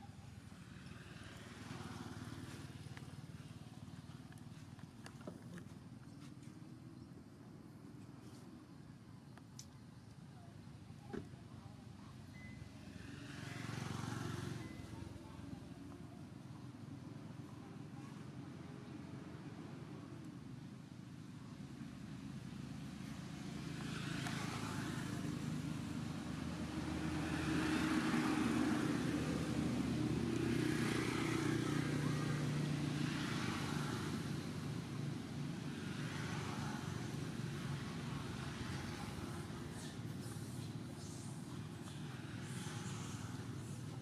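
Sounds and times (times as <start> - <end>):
tyre hiss of passing traffic: 0.0 - 6.0, 10.2 - 44.0
traffic engine hum: 0.0 - 44.0.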